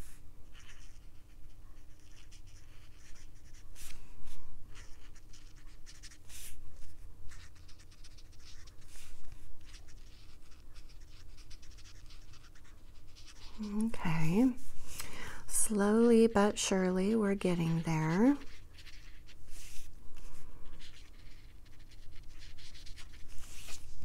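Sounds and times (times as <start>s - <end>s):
marker scratching on card: 0.0s - 14.9s, 15.9s - 24.0s.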